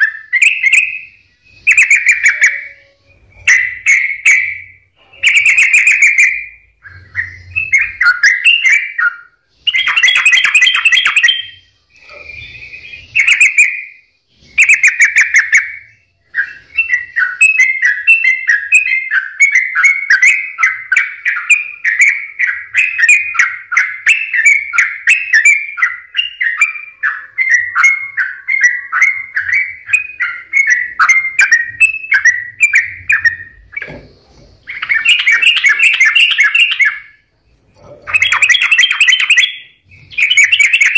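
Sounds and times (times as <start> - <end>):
bird singing and chattering: 0.0 - 40.9.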